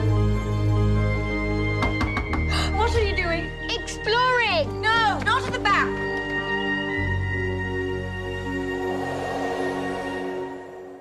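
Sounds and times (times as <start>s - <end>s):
soft film score music: 0.0s - 11.0s.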